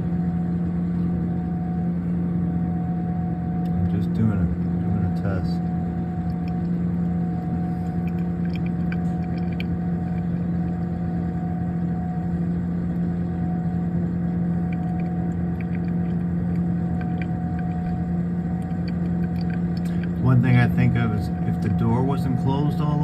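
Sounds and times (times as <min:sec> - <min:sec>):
refrigerator compressor hum: 0:00.0 - 0:23.0.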